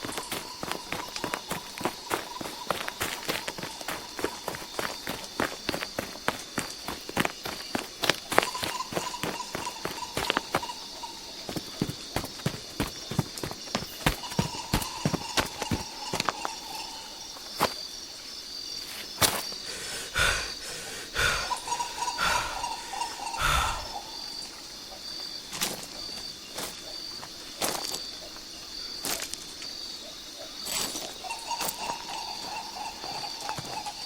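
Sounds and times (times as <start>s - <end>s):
high pulsing insect call: 0.0s - 34.0s.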